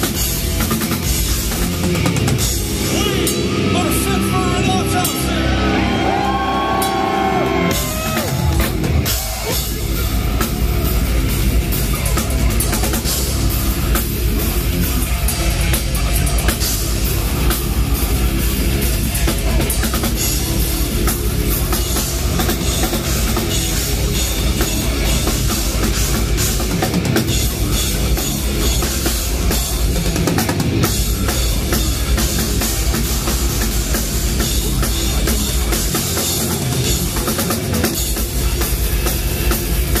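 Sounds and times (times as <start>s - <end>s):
heavy metal band playing: 0.0s - 40.0s
pounding drum kit: 0.0s - 40.0s.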